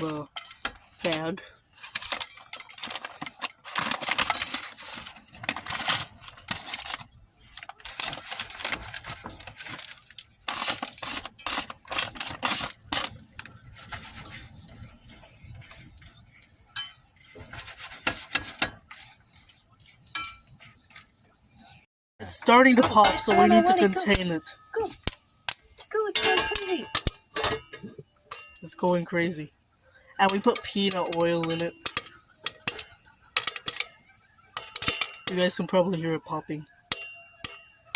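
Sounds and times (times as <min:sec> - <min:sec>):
kernels clattering in a pot: 0:00.0 - 0:21.4, 0:22.2 - 0:37.9
oil sizzling: 0:00.0 - 0:37.9.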